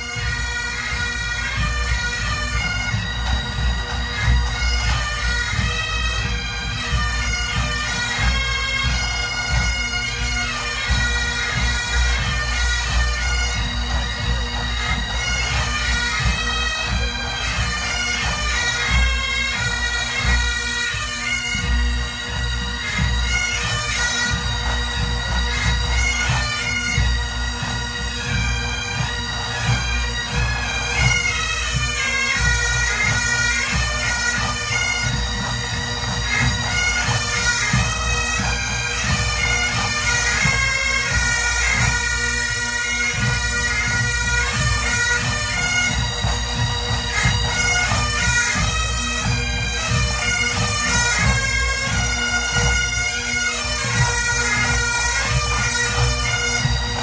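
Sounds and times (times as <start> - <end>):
bagpipe drone: 0.0 - 57.0
bagpipe melody: 0.0 - 57.0.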